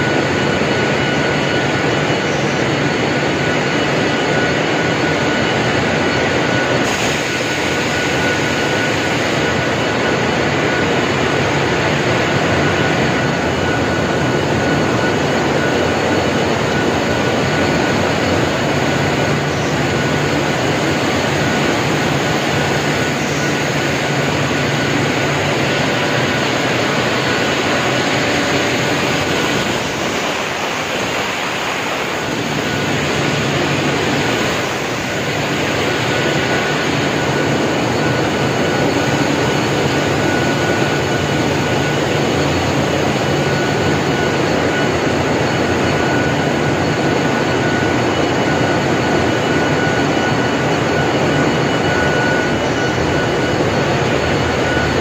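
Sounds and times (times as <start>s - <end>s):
thin steady whine: 0.0s - 55.0s.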